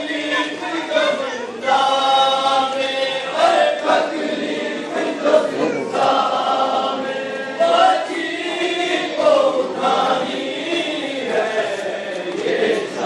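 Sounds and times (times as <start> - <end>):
men singing lament in unison: 0.0 - 13.0.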